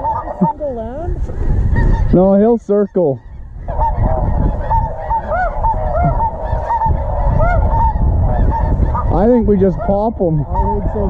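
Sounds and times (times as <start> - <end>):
geese honking: 0.0 - 11.0
wind rumbling on microphone: 0.0 - 11.0.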